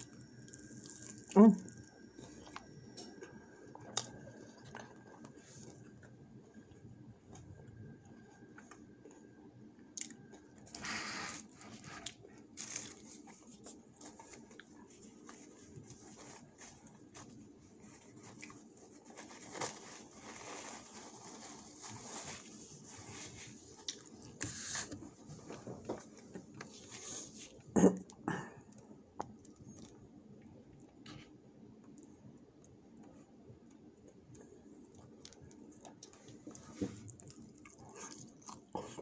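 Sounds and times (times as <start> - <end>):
person chewing food: 0.0 - 19.0, 23.8 - 24.5, 25.9 - 31.0, 31.8 - 39.0.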